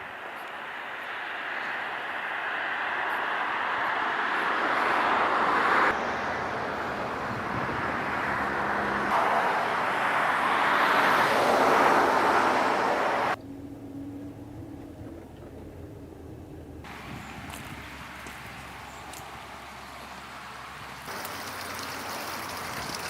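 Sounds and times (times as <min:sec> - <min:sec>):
passing cars rushing: 0:00.0 - 0:23.0.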